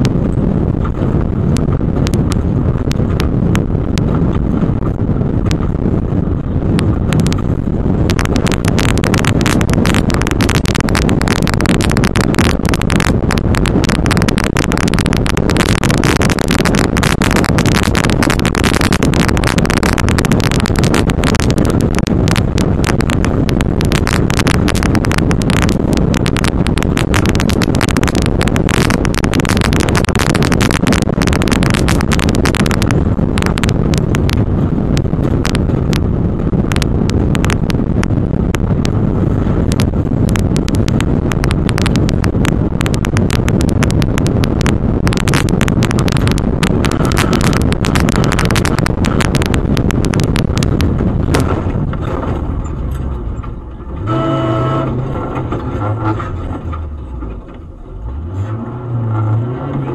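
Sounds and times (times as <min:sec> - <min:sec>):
body and gravel rattling: 0:00.0 - 0:54.0
engine and tyres rumbling: 0:00.0 - 0:59.9.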